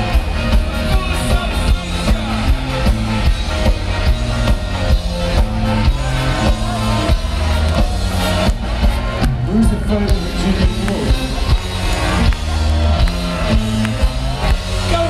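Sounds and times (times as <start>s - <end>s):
live ska band playing: 0.0s - 15.0s
stepping bass line: 0.0s - 15.0s.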